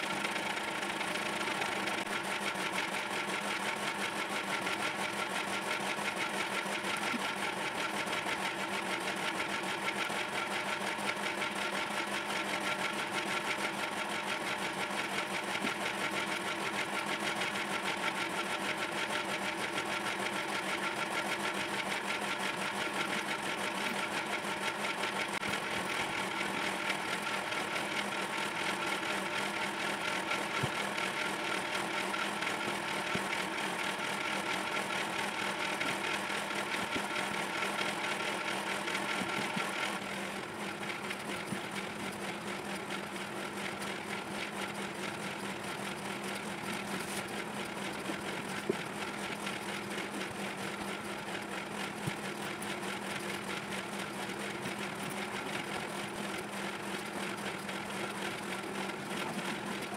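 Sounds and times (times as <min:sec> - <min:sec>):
small electric motor running: 0:00.0 - 0:59.9.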